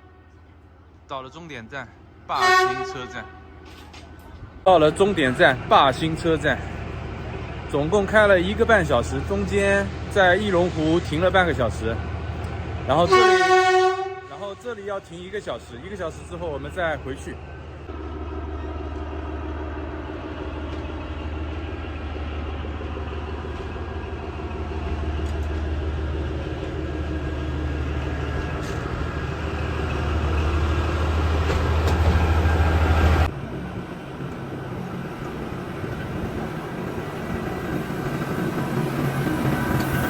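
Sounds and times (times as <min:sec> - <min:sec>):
train engine humming: 0:00.0 - 0:40.0.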